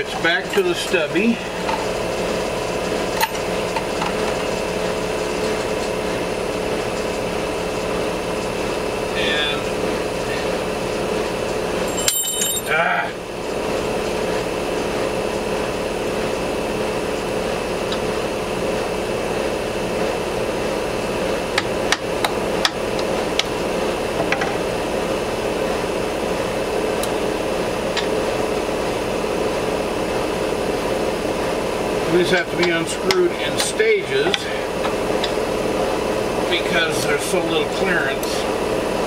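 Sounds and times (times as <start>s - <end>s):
machinery motor hum: 0.0s - 39.0s.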